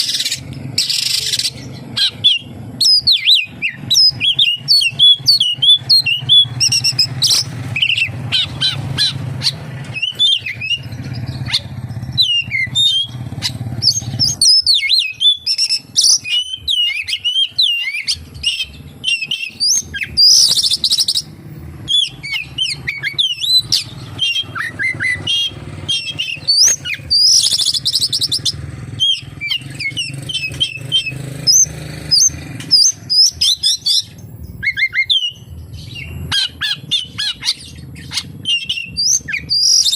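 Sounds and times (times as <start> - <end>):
harsh buzzy bird bursts: 0.0 - 39.9
magpie-robin singing: 0.0 - 39.9.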